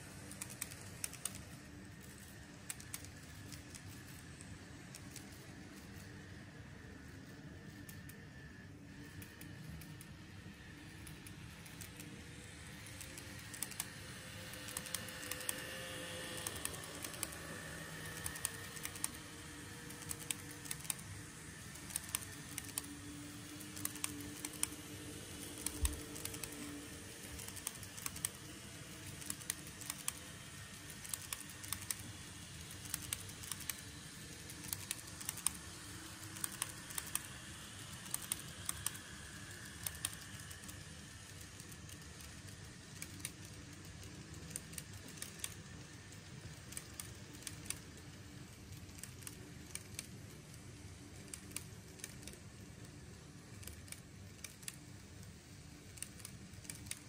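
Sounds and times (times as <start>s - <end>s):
model train motor hum: 0.0s - 57.0s.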